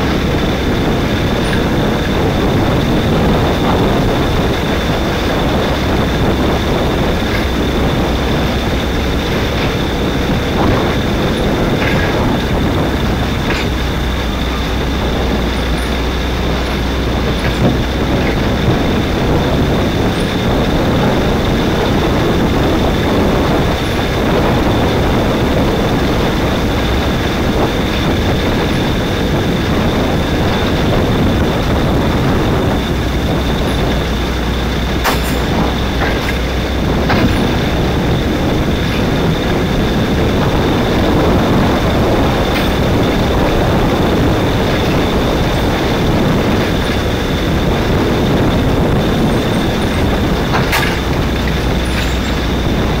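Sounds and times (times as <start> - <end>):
kart engine rumble: 0.0 - 53.0
road and spray noise: 0.0 - 53.0.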